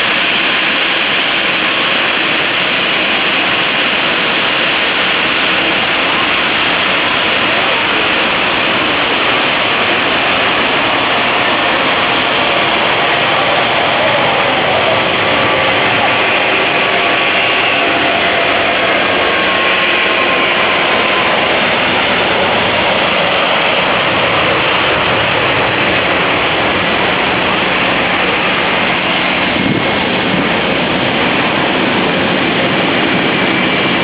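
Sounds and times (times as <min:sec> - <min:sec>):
faint engine whine: 0:00.0 - 0:34.0
jet engines roaring: 0:00.0 - 0:34.0.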